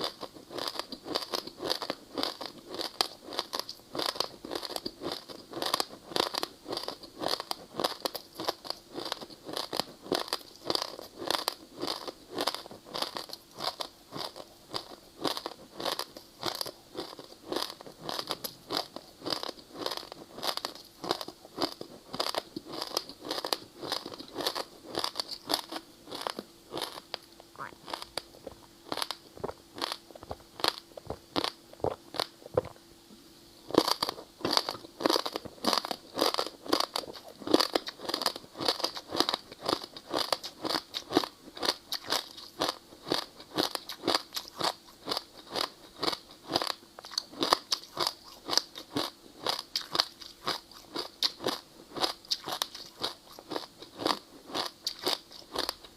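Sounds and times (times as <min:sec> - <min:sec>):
ice crunching while chewed: 0:00.0 - 0:32.8, 0:33.7 - 0:55.9.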